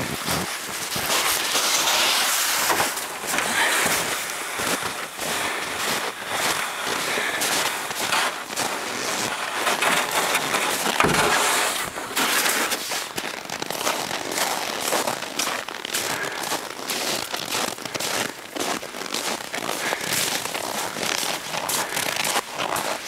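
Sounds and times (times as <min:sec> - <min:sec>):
running footsteps on snow: 0:00.0 - 0:23.0.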